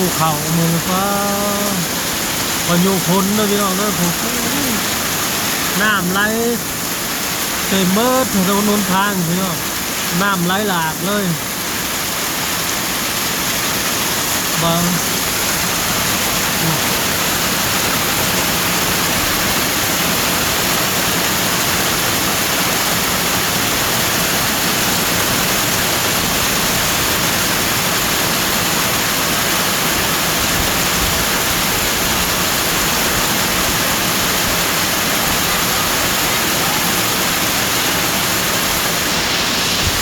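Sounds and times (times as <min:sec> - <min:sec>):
floodwater rushing across road: 0:00.0 - 0:40.0
heavy rain pouring: 0:00.0 - 0:40.0.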